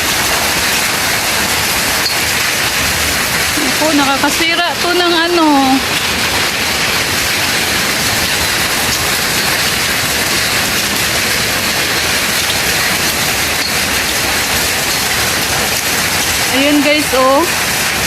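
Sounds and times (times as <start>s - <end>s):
heavy rain and hail: 0.0s - 18.0s.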